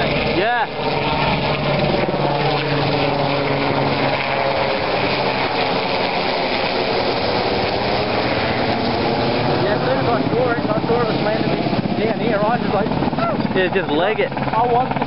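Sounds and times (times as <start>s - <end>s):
helicopter rotors and engines: 0.0s - 15.0s.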